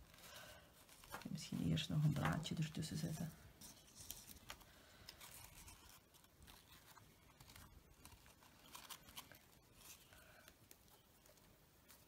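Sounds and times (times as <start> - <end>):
faint fabric rustling: 0.0 - 12.0.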